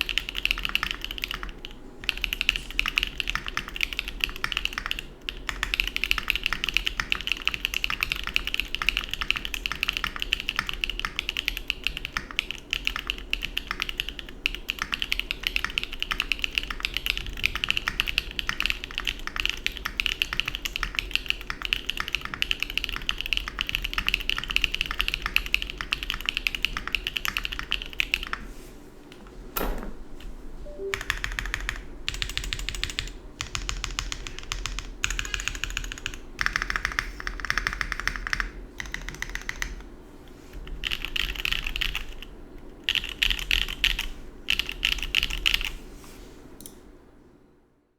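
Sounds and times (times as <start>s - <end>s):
mechanical keyboard typing: 0.0s - 28.4s, 30.7s - 39.9s, 40.8s - 45.7s.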